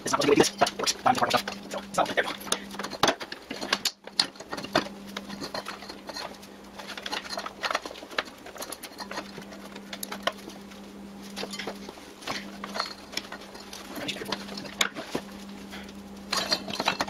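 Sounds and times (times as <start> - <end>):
steady low hum: 0.0 - 17.0
taps scrapes and rustles: 0.0 - 17.0.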